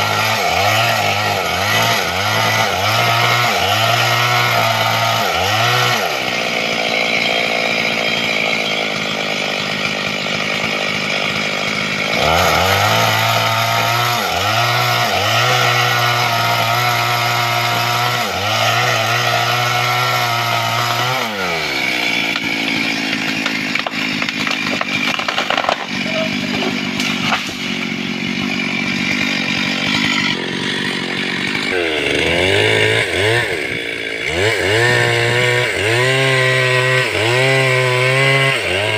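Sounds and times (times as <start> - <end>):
sharp wood cracks: 0.0 - 34.9
chainsaw cutting through trunk: 0.0 - 38.9.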